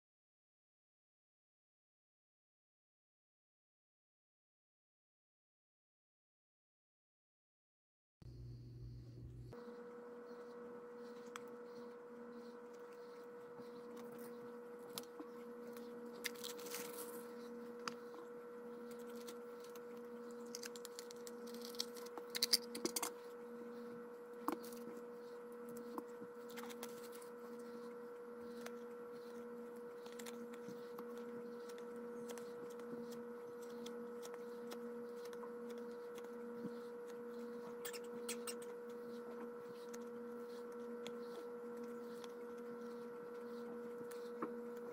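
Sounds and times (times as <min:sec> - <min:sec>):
electrical hum: 0:08.3 - 0:44.9.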